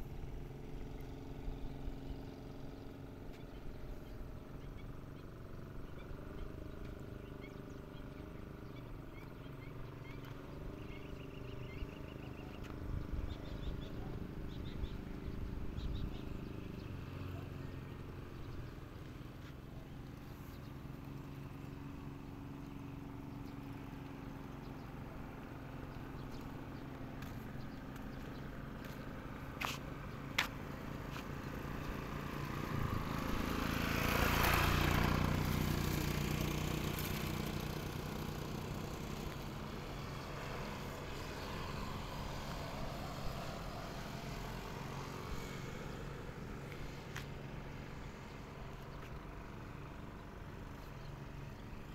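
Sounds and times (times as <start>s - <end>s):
motor traffic hum: 0.0s - 51.9s
vehicle passing: 9.6s - 51.9s.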